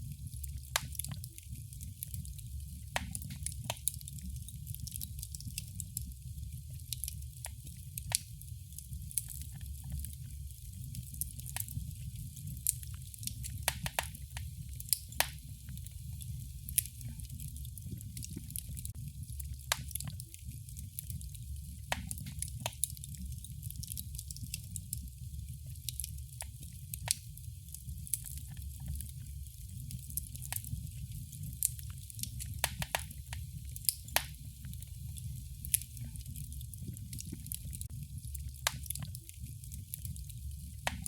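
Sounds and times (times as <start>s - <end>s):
low rush of burning fire: 0.0s - 41.0s
wood fire crackling and popping: 0.0s - 41.0s.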